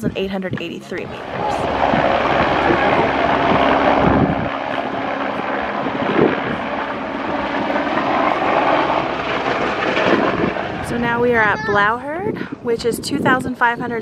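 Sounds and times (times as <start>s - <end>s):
helicopter flying low past: 0.0s - 14.0s.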